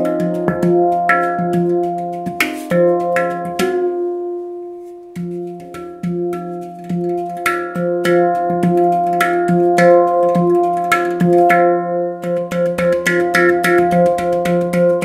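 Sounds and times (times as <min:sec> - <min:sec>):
handpan notes ringing: 0:00.0 - 0:15.0.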